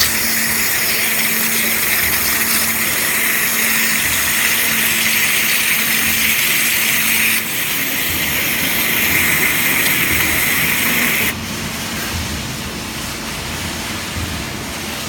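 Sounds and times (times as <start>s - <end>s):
waterjet cutter hissing: 0.0s - 15.0s.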